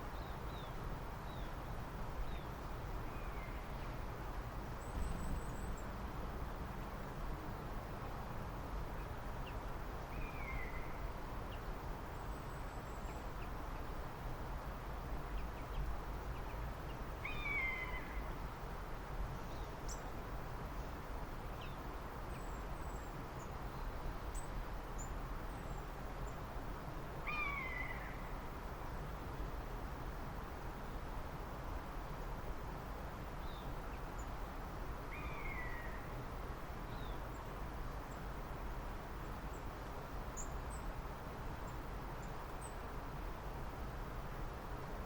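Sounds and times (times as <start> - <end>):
low background noise: 0.0 - 45.0.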